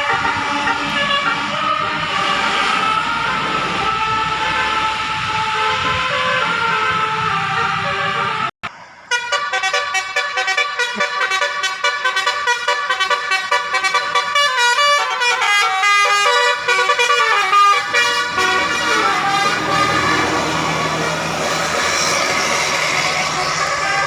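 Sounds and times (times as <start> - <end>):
multi-tone bus horn melody: 0.0 - 24.0.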